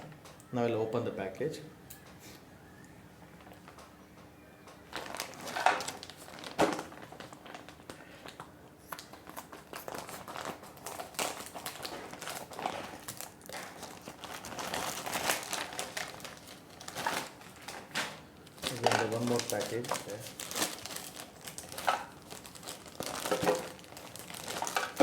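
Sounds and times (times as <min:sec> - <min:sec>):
packaging crinkling and rustling: 0:04.8 - 0:25.0
sharp packaging sounds: 0:04.8 - 0:25.0.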